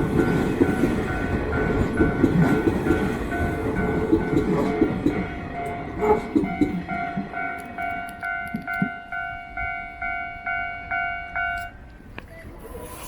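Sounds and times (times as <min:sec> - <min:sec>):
level crossing alarm ringing: 0:00.0 - 0:12.0
train rumble and wheel clatter: 0:00.0 - 0:13.0.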